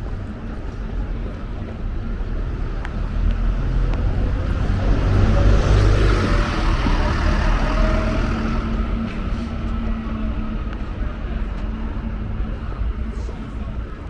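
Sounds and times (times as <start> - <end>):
vehicle engine rumble passing: 2.0 - 13.8.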